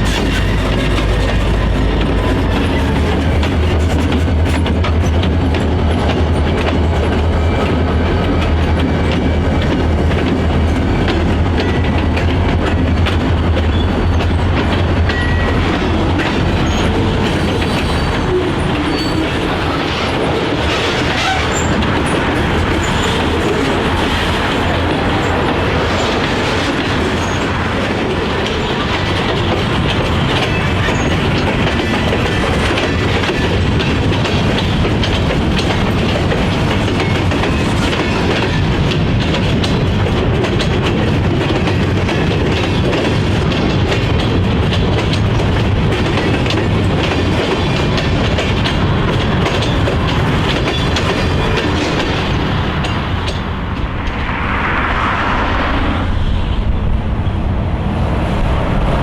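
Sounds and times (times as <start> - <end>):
train wheels clickety-clack: 0.0 - 54.6
diesel locomotive drone: 0.0 - 59.0.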